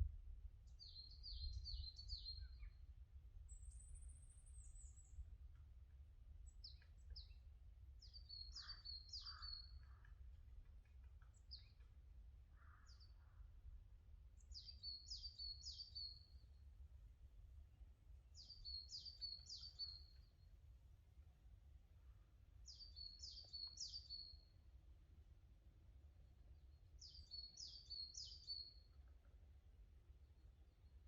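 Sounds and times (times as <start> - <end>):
songbird singing faintly: 0.0 - 16.9, 17.6 - 25.2, 26.1 - 31.0.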